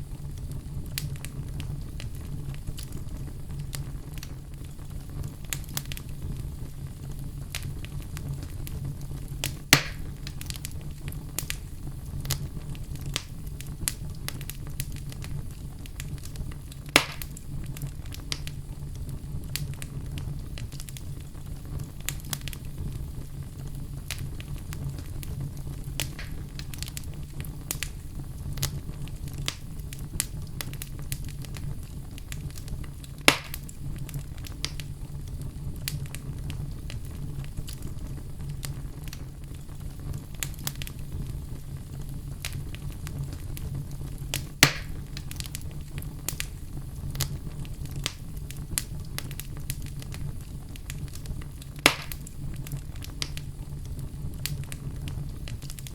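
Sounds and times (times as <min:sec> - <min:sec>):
loud fire pops: 0:00.0 - 0:55.9
wood fire crackling: 0:00.0 - 0:55.9.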